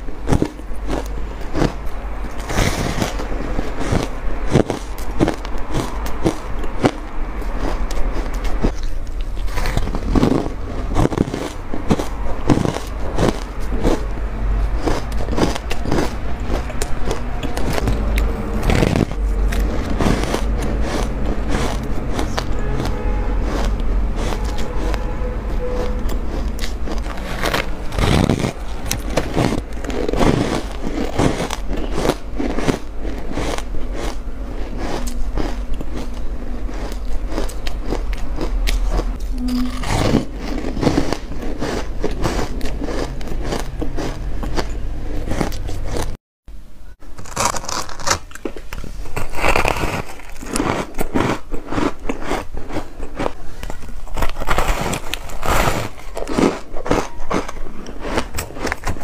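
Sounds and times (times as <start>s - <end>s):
crunching ice while chewing: 0.0s - 46.2s, 47.1s - 59.0s.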